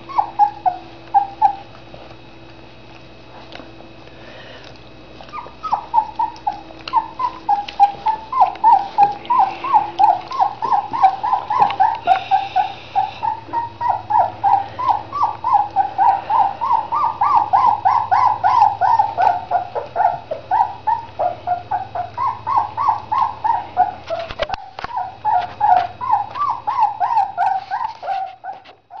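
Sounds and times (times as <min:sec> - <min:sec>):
puppies whimpering: 0:00.0 - 0:01.8, 0:03.4 - 0:29.0.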